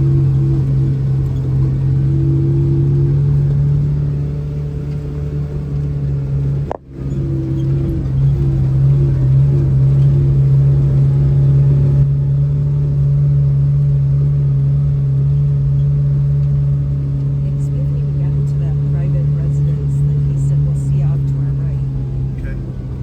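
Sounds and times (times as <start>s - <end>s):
vehicle engine drone: 0.0s - 23.0s.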